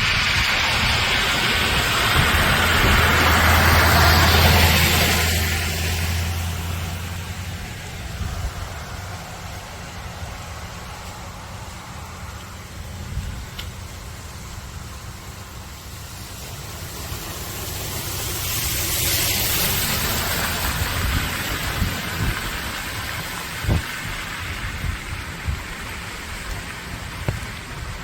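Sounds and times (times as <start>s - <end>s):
vehicle passing by: 0.0s - 13.4s, 15.4s - 27.7s.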